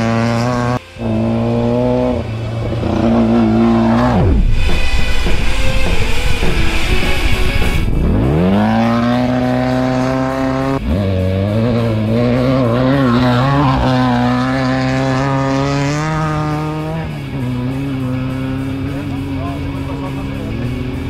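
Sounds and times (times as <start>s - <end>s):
race vehicle engine revving: 0.0s - 21.0s.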